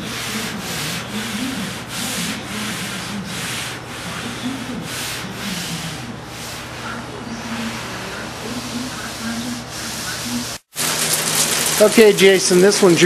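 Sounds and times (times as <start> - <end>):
hand sanding strokes: 0.0 - 12.7.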